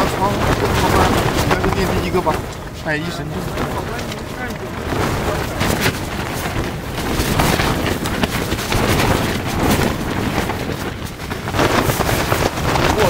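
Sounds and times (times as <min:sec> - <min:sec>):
tent fabric flapping: 0:00.0 - 0:13.0
wind rushing: 0:00.0 - 0:13.0.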